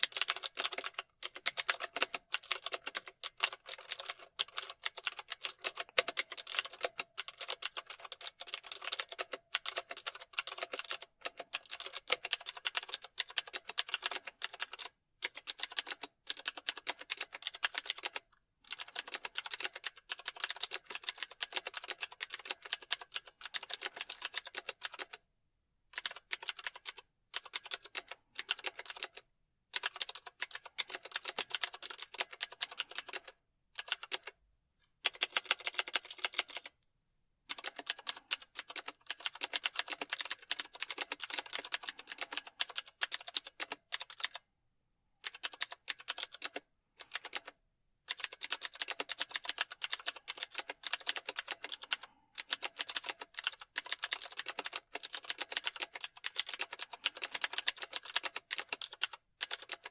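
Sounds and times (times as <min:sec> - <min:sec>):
fast keyboard typing: 0:00.0 - 0:25.2, 0:26.0 - 0:34.4, 0:35.0 - 0:36.8, 0:37.5 - 0:44.5, 0:45.2 - 0:59.9.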